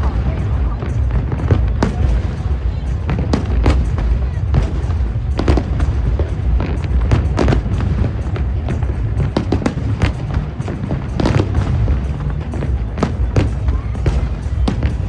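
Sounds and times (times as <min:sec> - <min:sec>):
fireworks bursting: 0:00.0 - 0:15.0
low rumble: 0:00.0 - 0:15.0
music playing: 0:00.0 - 0:15.0.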